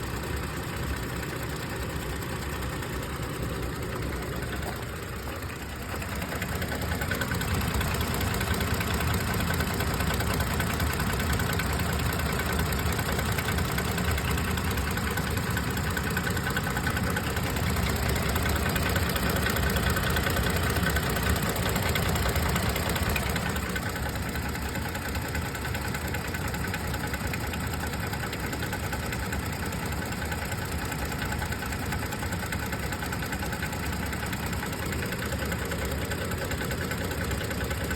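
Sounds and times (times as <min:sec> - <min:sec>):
engine running with knock: 0:00.0 - 0:37.9.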